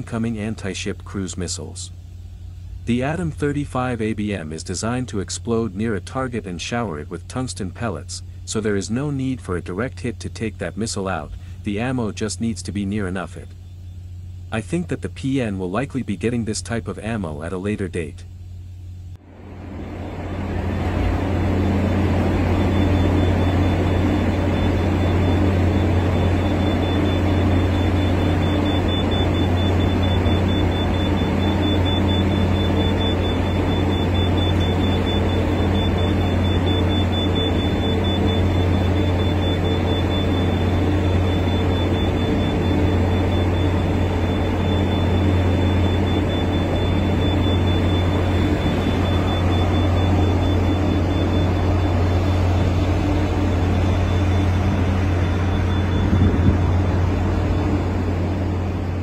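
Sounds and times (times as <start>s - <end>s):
deep machinery drone: 0.0s - 59.0s
thin high whine: 0.0s - 59.0s.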